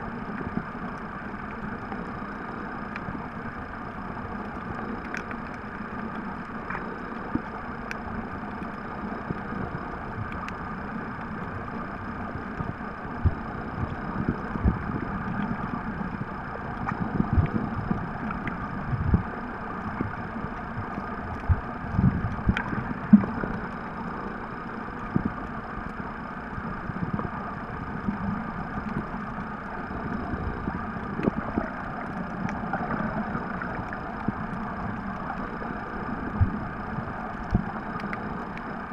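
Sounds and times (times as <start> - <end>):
muffled underwater rumbling hiss: 0.0 - 38.9.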